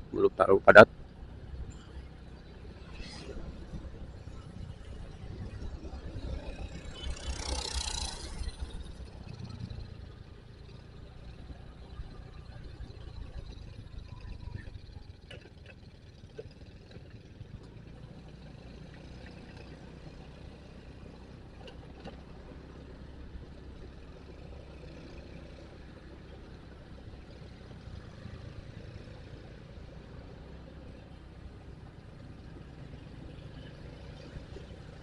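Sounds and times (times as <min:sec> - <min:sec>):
motorcycle engine rumbling: 0:00.0 - 0:35.0.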